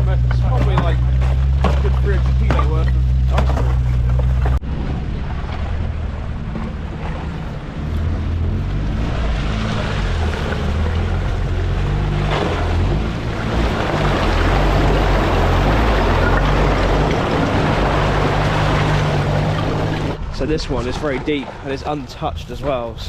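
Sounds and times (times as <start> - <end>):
off-road vehicle engine running: 0.0 - 23.0
water rushing and splashing: 0.0 - 23.0.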